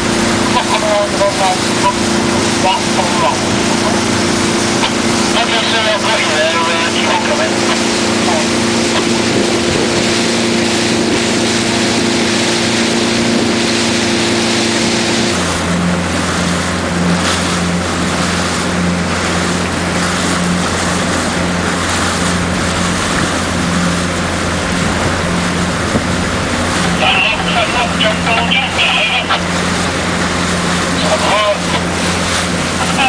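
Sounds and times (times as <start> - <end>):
motorboat engine running: 0.0 - 33.0
wind and water rushing: 0.0 - 33.0.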